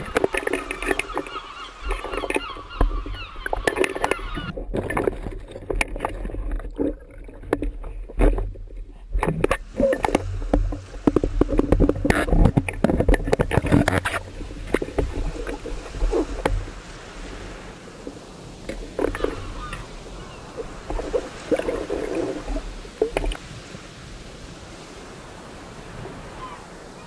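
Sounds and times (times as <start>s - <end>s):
water sloshing underwater: 0.0s - 27.0s.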